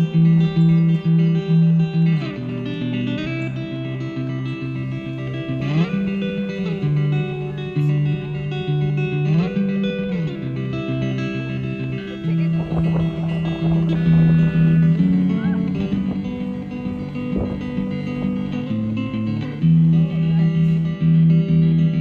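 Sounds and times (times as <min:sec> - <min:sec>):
bass line: 0:00.0 - 0:22.0
plucked guitar music: 0:00.0 - 0:22.0.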